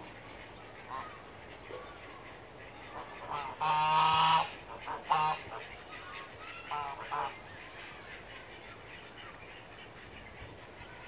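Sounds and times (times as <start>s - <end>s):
geese honking: 0.0s - 10.8s.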